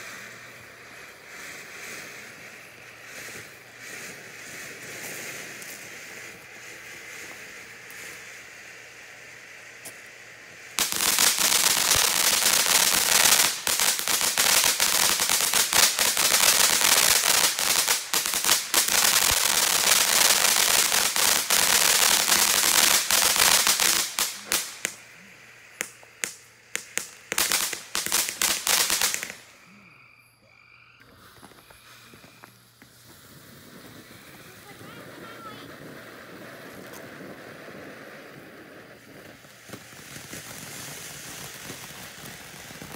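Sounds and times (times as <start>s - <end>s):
firework crackling pops: 0.0s - 29.7s, 31.0s - 42.9s
firework fountain hissing: 0.0s - 29.8s, 31.0s - 42.9s.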